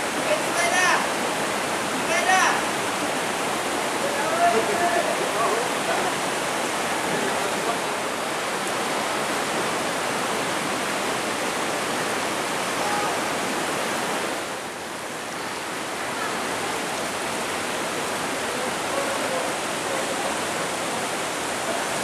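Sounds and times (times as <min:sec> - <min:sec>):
flowing falling water: 0:00.0 - 0:22.0.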